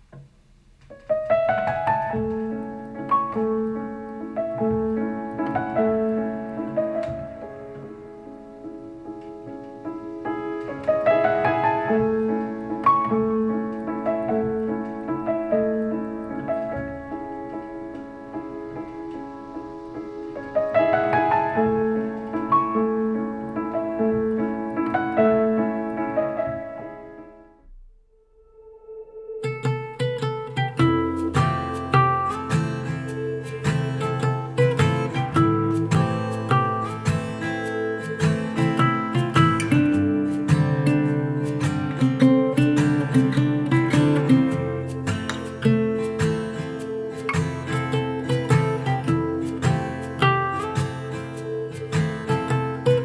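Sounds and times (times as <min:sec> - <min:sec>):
piano music through speakers: 0:00.0 - 0:53.0.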